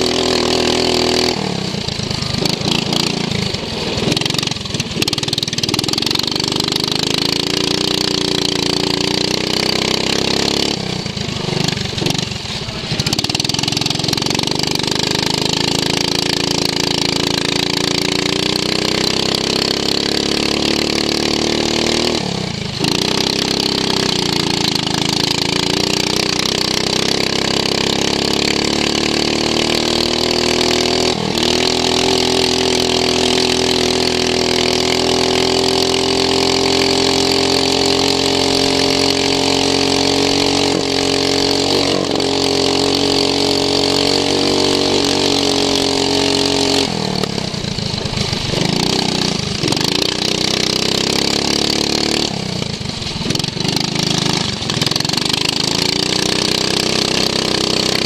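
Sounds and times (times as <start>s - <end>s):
lawn mower engine revving: 0.0s - 58.0s.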